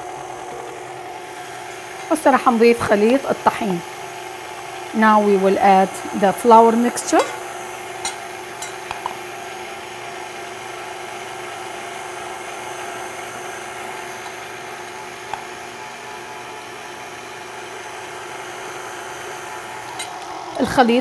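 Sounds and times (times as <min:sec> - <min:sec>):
stand mixer motor whining: 0:00.0 - 0:21.0.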